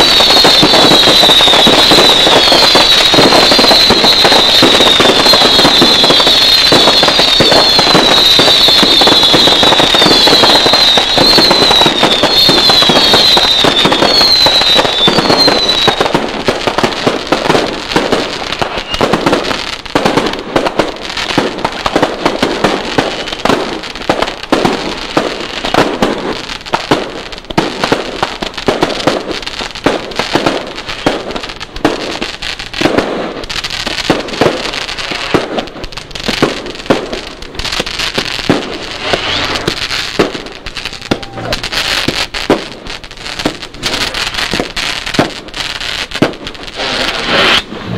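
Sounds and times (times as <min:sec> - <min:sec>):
firework crackle: 0:00.0 - 0:47.9
fireworks popping: 0:00.0 - 0:47.9.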